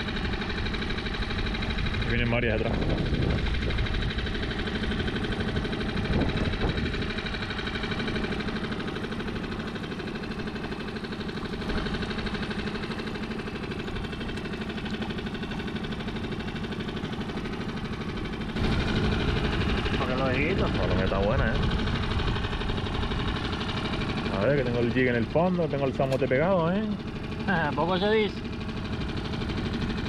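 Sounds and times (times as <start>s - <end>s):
outboard motor idling: 0.0s - 30.0s.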